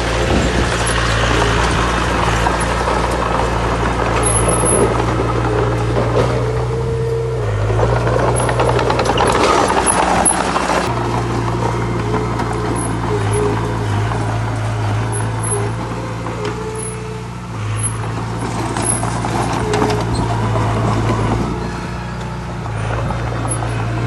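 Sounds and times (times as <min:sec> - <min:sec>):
diesel machinery running: 0:00.0 - 0:24.0.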